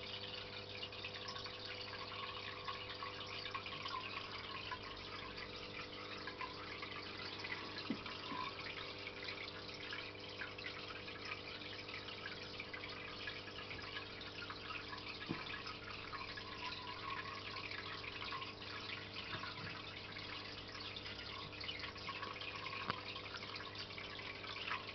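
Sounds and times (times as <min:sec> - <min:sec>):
water trickling and dripping: 0:00.0 - 0:24.9.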